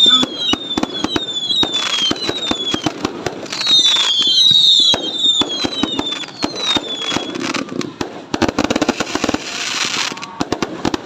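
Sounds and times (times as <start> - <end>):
fireworks crackling: 0.0 - 11.0
fireworks popping and banging: 0.0 - 11.0
fireworks whistling: 0.0 - 11.0.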